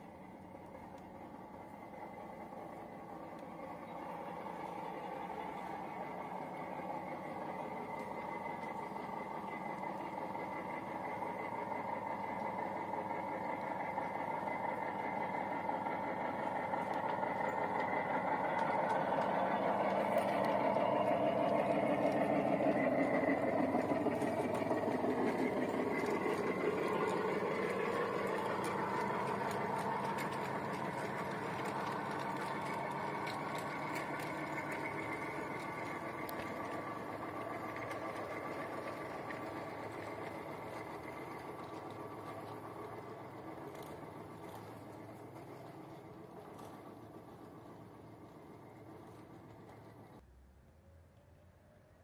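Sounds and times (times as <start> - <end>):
miniature train running and rattling: 0.0 - 50.2.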